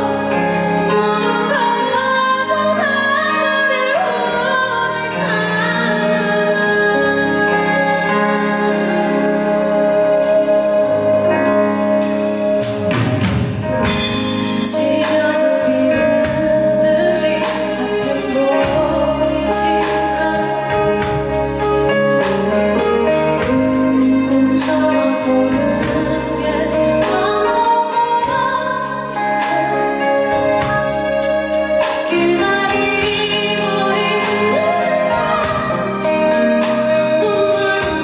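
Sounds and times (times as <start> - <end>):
woman singing a ballad: 0.0 - 11.6, 13.9 - 38.0
instrumental accompaniment: 0.0 - 38.0.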